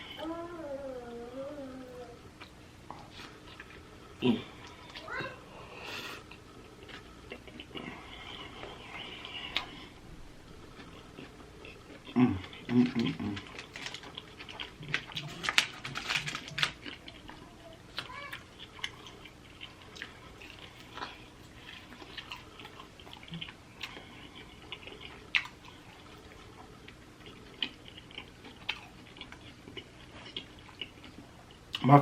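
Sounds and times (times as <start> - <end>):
person chewing food: 2.3 - 31.8.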